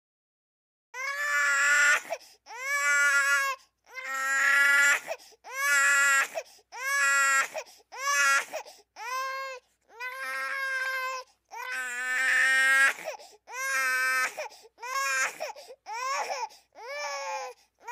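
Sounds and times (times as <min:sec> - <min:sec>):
infant crying: 0:01.0 - 0:17.9.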